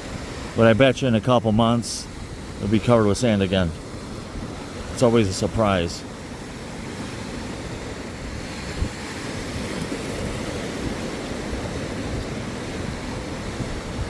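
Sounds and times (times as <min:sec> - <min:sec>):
sea surf washing on beach: 0:00.0 - 0:14.0
wind buffeting microphone: 0:00.0 - 0:14.0.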